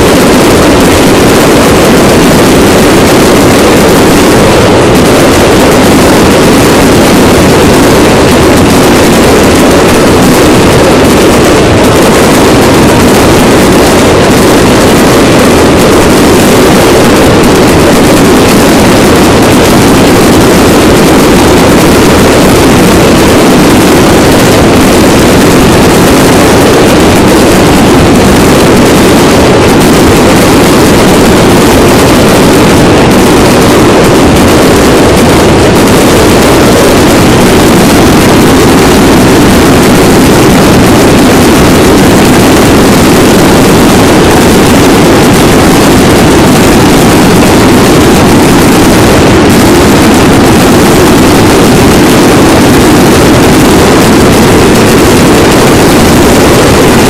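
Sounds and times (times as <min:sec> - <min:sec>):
fireworks roaring: 0:00.0 - 0:57.0.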